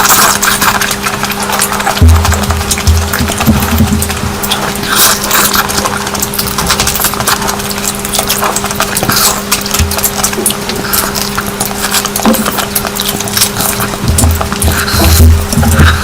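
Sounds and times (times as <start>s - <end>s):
chewing and mouth smacking: 0.0s - 16.0s
faint hum: 0.0s - 16.0s.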